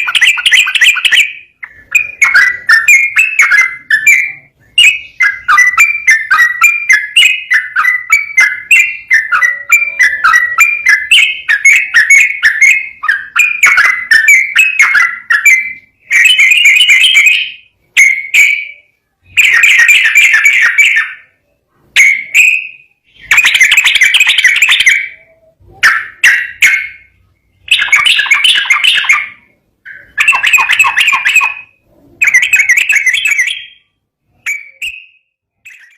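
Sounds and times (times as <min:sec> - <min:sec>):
bird singing bubbly warbles: 0:00.0 - 0:35.9.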